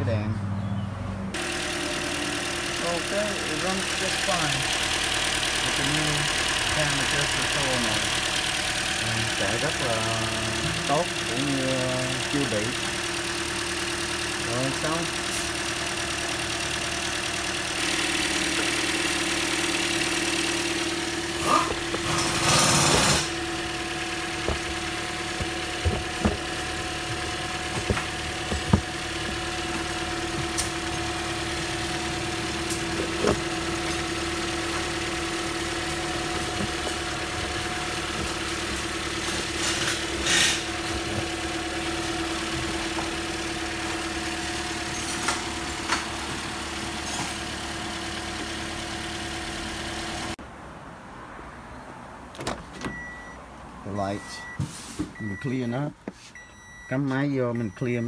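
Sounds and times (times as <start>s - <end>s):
car engine idling: 1.3s - 50.4s.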